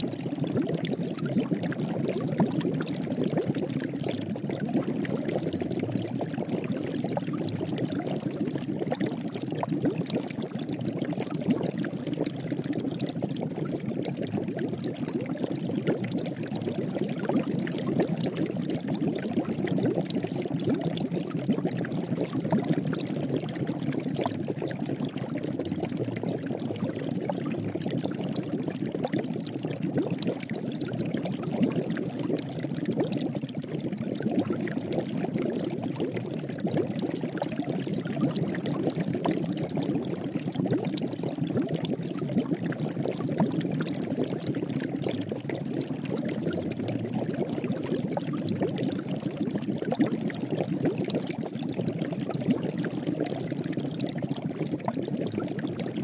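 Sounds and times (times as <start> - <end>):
water boiling and bubbling: 0.0 - 56.0.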